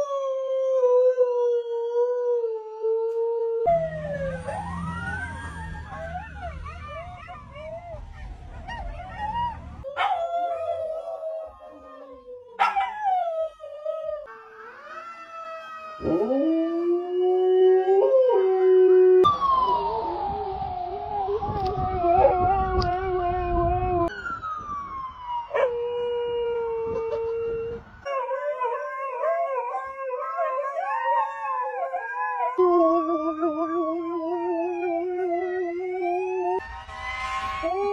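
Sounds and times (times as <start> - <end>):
dogs howling: 0.0 - 24.1, 25.5 - 36.6
emergency vehicle siren: 0.0 - 37.9.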